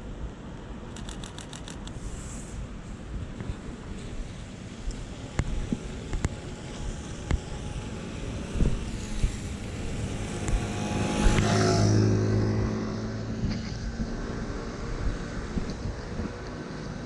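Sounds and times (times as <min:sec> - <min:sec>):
vehicle passing on wet street: 0:01.0 - 0:17.0.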